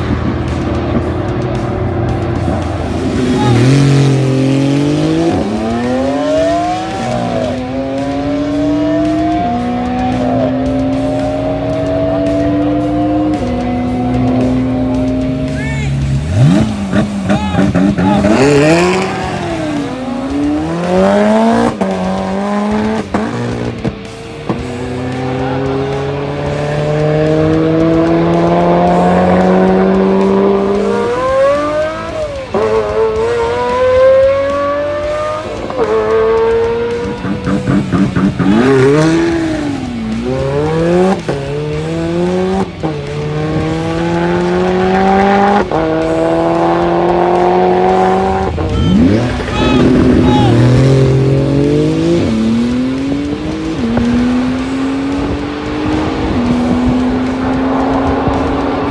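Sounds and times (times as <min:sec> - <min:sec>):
supercar engines at full throttle: 0:00.0 - 0:58.9.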